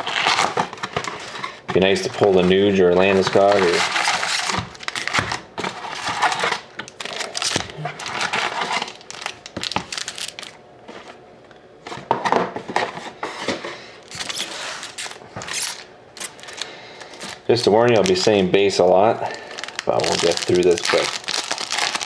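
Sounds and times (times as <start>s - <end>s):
foil wrappers crinkling: 0.0s - 10.6s, 14.0s - 22.0s.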